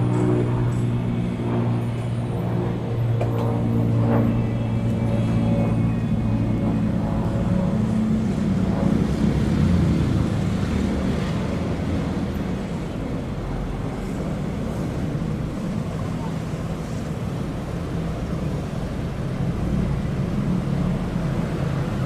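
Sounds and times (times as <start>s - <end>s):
light aircraft droning overhead: 0.0s - 22.0s.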